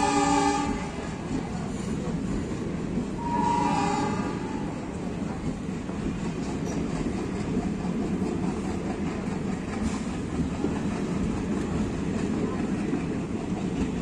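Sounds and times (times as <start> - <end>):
train rolling on rails: 0.0 - 14.0.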